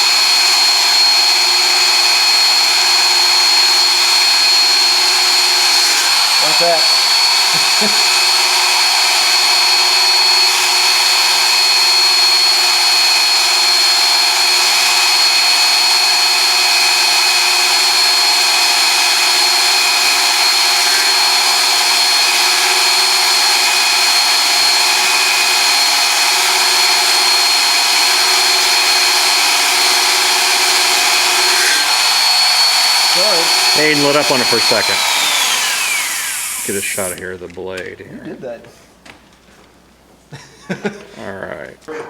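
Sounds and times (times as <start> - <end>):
electric grinder grinding steel: 0.0 - 37.2.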